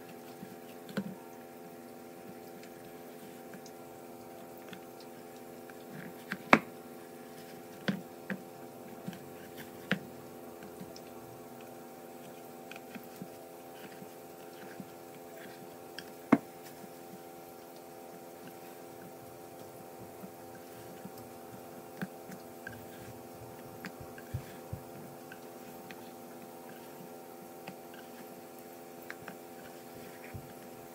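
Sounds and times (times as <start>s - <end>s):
electrical hum: 0.0s - 30.9s.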